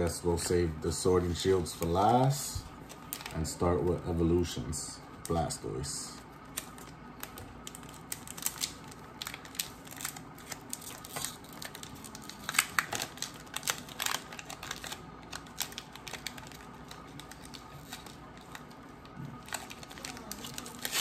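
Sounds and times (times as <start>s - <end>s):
foil wrapper crinkling: 1.3s - 3.7s, 5.2s - 21.0s.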